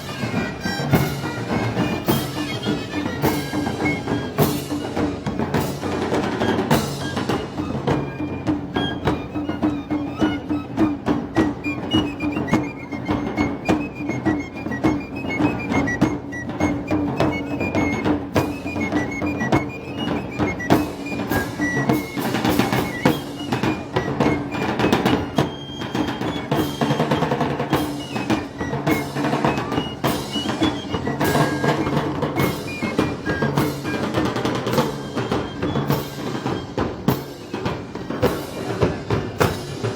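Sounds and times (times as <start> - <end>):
drum beat: 0.0 - 39.9
street band melody: 0.0 - 39.9.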